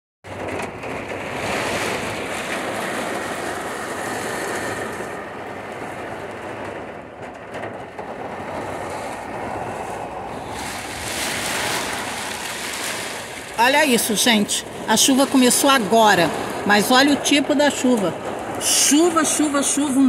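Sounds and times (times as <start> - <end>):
heavy rain pouring: 0.3 - 20.0
wind rumbling on microphone: 0.3 - 20.0.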